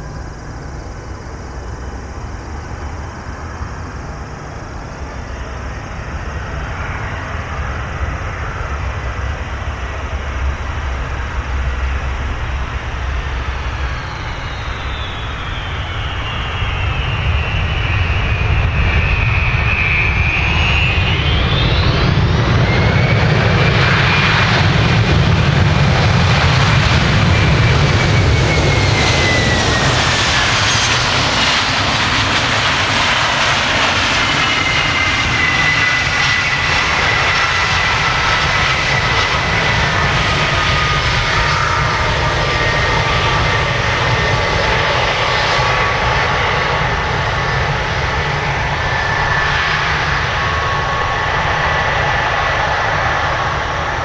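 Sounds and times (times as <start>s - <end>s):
jet engine high whine: 0.0s - 54.0s
jet engine low rumble: 0.0s - 54.0s.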